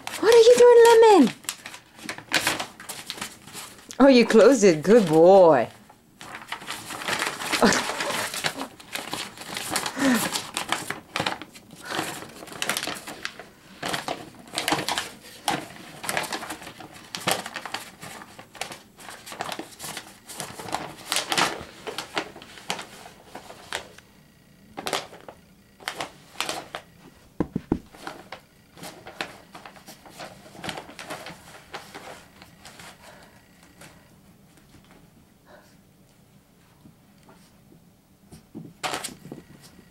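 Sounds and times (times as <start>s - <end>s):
paper rustling and crinkling: 0.0s - 24.0s, 24.8s - 26.8s, 27.5s - 35.0s, 38.3s - 39.9s.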